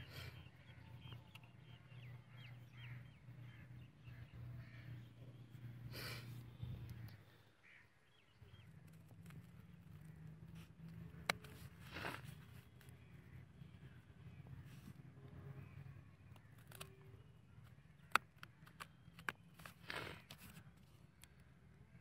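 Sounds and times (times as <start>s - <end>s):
faint bird calls: 0.0s - 22.0s
low steady hum: 0.0s - 22.0s.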